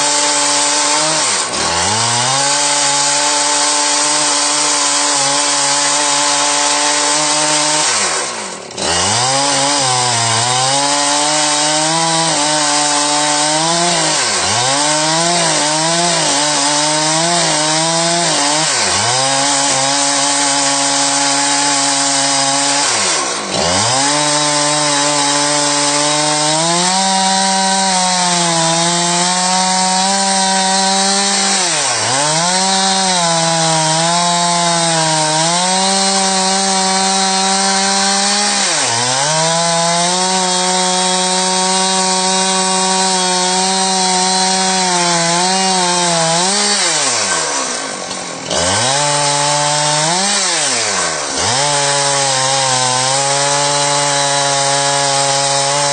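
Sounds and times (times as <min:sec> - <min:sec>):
chainsaw ripping a log: 0:00.0 - 0:55.9.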